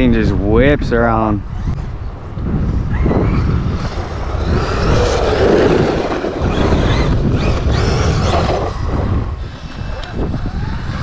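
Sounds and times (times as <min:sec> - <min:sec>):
constant rough noise: 0:00.0 - 0:11.0
electric motor whining: 0:01.6 - 0:11.0.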